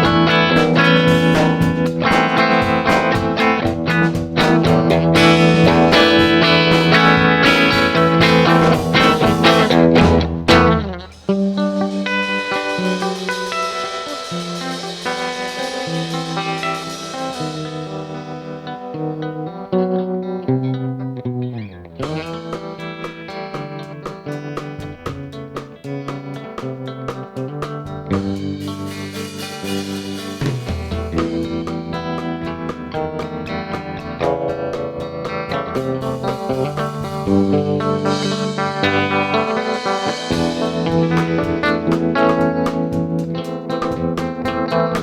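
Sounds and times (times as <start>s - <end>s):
drums keeping a steady beat: 0.0s - 20.4s, 22.0s - 45.0s
guitar: 0.0s - 45.0s.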